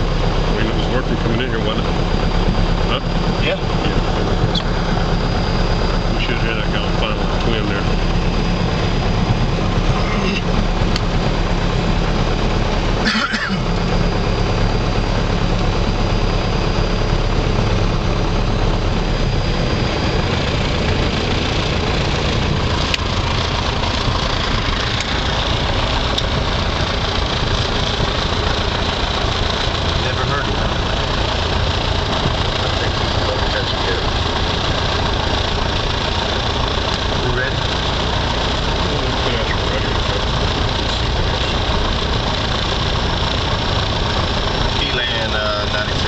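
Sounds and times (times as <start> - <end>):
light aircraft engine and propeller: 0.0 - 46.0.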